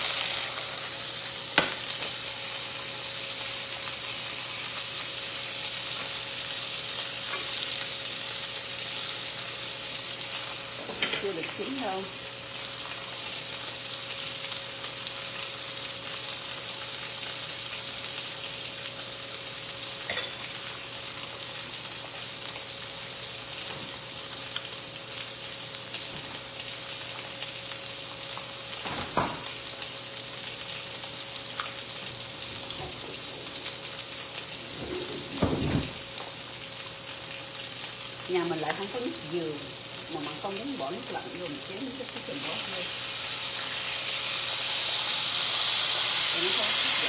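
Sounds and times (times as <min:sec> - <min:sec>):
chicken sizzling in frying pan: 0:00.0 - 0:47.0.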